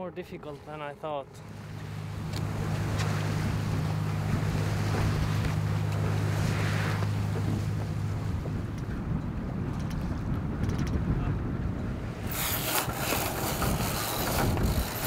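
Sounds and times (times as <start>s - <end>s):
low engine hum: 0.0s - 15.0s
water washing along hull: 0.0s - 15.0s
wind on microphone: 1.5s - 15.0s.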